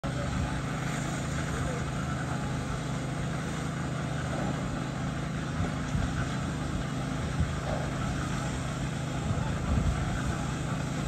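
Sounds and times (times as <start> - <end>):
building site noise: 0.0 - 11.0
motor droning: 0.0 - 11.0.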